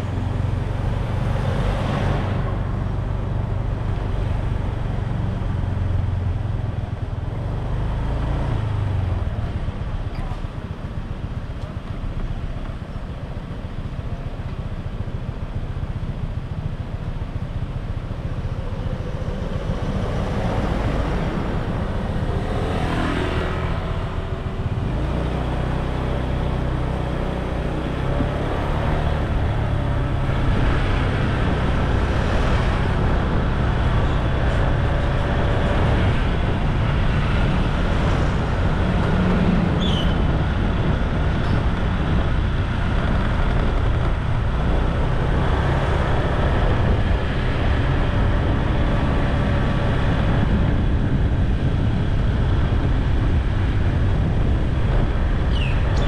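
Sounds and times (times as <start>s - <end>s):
traffic engines running: 0.0s - 56.0s
wind rumble on microphone: 0.0s - 56.0s.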